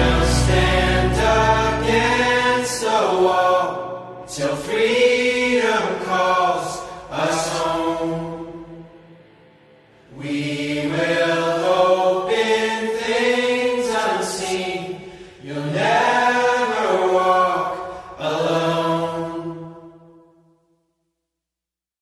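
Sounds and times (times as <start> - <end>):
person singing long wordless notes: 0.0 - 9.1, 9.9 - 20.3.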